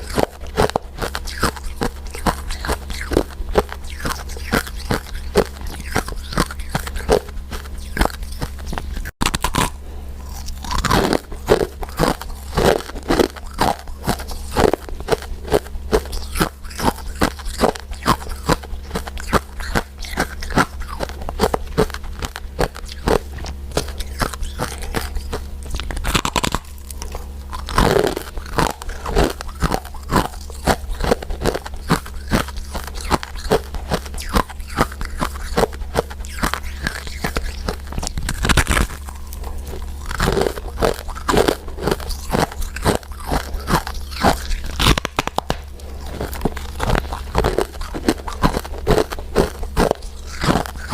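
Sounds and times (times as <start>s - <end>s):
candies crunching and chewing: 0.0s - 50.9s
steady low hum: 0.0s - 50.9s.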